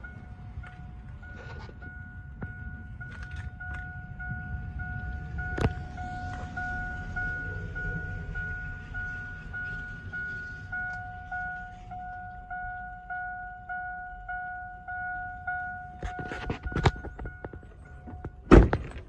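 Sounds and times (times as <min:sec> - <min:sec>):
dashboard warning chime: 0:00.0 - 0:18.6.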